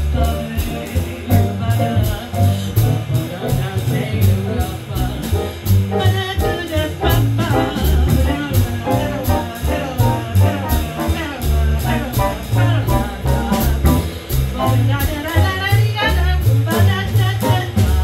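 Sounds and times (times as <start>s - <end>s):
drums with cymbal pulse: 0.0s - 18.0s
piano: 0.0s - 18.0s
upright bass: 0.0s - 18.0s.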